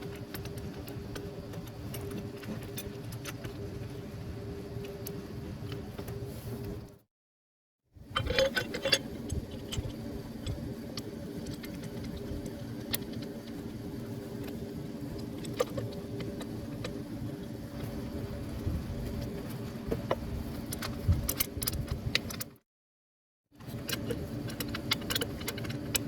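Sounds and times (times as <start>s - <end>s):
steady mechanical hum: 0.0s - 7.1s, 8.0s - 22.6s, 23.6s - 26.0s.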